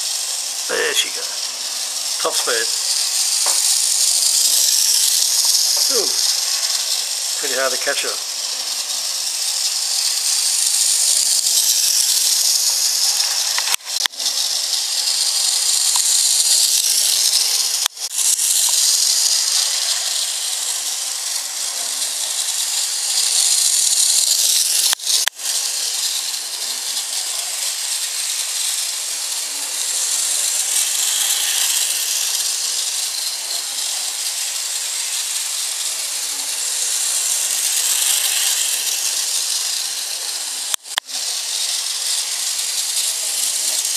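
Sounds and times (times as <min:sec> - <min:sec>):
model trolley motor whirring: 0:00.0 - 0:43.9.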